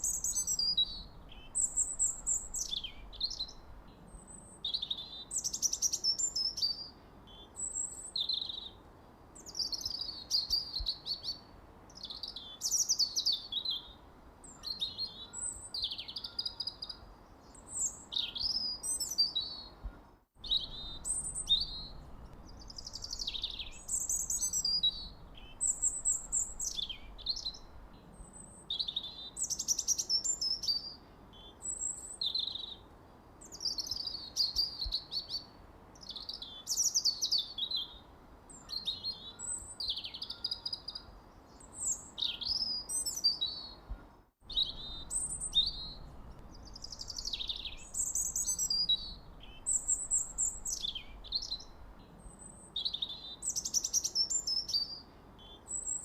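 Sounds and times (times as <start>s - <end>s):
songbirds chirping and singing: 0.0s - 8.8s, 9.4s - 56.0s.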